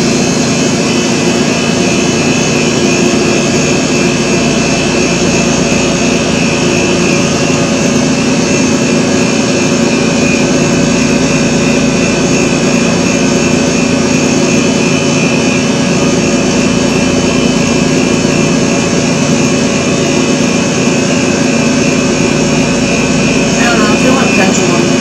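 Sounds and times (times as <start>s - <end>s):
loud droning hum and hiss: 0.0s - 25.0s.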